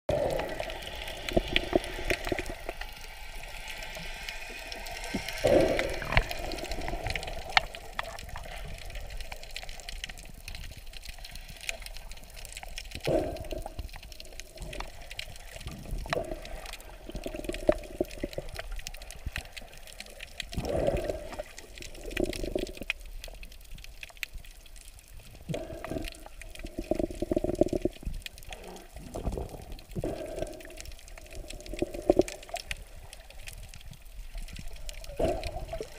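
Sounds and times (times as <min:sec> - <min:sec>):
crackles and clicks: 0:00.1 - 0:35.9
underwater sloshing and bubbling: 0:00.1 - 0:35.9.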